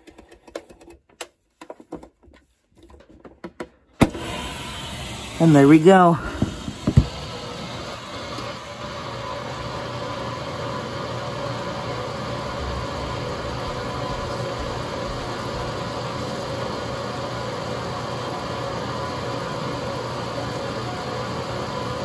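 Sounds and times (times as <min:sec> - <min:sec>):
washing machine filling with water: 0:04.0 - 0:22.0.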